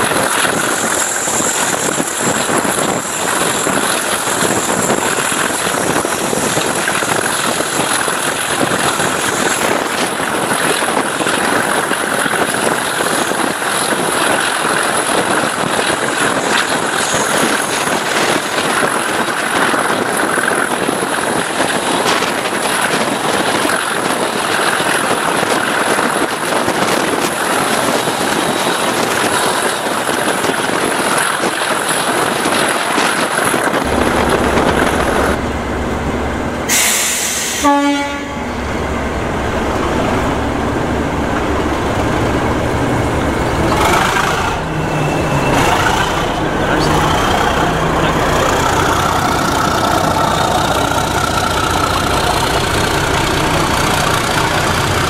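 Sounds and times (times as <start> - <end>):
diesel locomotive engine running: 0.0 - 55.0
train wheel and rail noise: 0.0 - 55.0.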